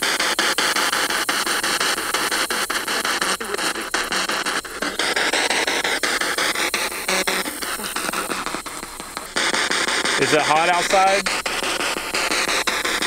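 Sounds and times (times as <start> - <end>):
radio static with rapid clicks: 0.0 - 13.0.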